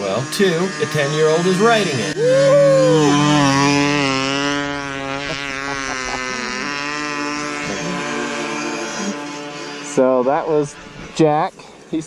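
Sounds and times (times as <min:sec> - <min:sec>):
two-stroke engine at high revs: 0:00.0 - 0:12.0.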